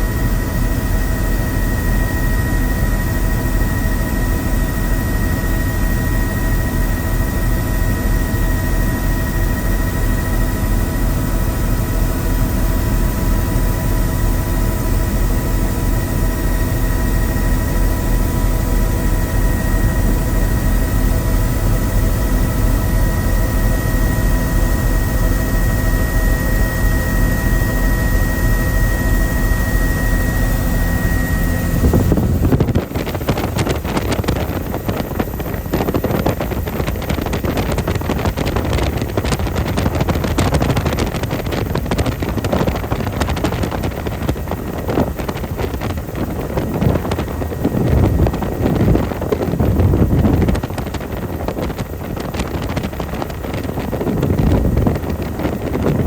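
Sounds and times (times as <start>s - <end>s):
helicopter engine and rotor drone: 0.0s - 56.0s
high whine: 0.0s - 56.0s.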